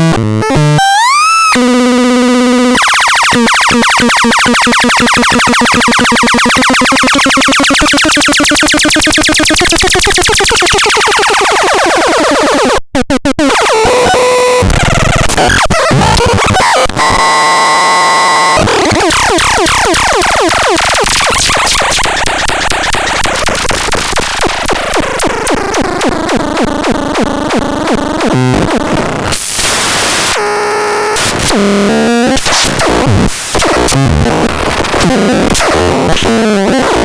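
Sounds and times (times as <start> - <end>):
harsh chaotic synthesized noise: 0.0 - 37.0.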